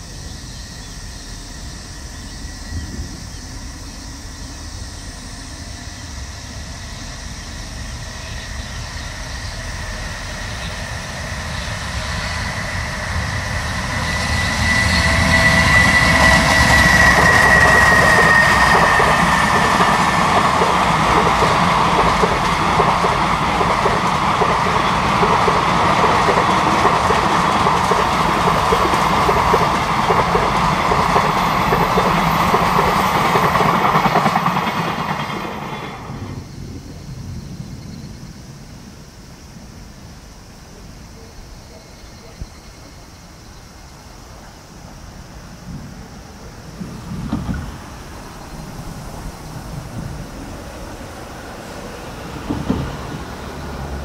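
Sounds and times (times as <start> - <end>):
train wheels running over rails: 0.0 - 39.1, 41.7 - 54.0
electric locomotive whine: 0.0 - 54.0.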